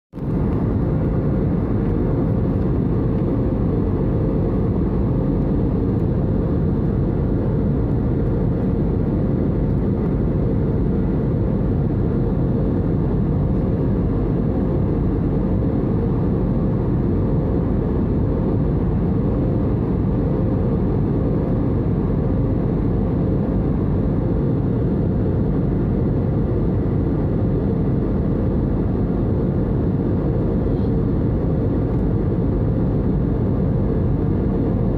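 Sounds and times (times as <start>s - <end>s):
faint hum tone: 0.2s - 34.9s
jet engines rumbling: 0.2s - 34.9s.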